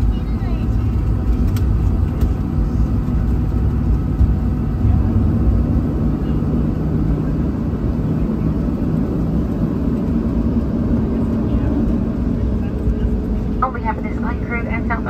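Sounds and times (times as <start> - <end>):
aircraft engine idling in cabin: 0.0 - 15.0
airframe rolling rumble: 0.0 - 15.0.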